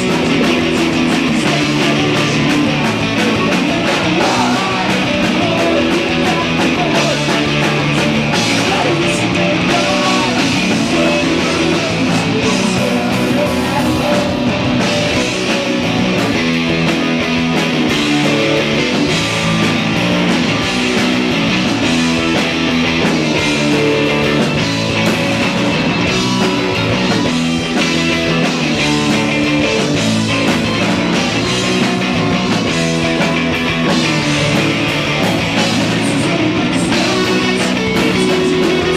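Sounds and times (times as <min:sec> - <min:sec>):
live punk rock band: 0:00.0 - 0:38.9.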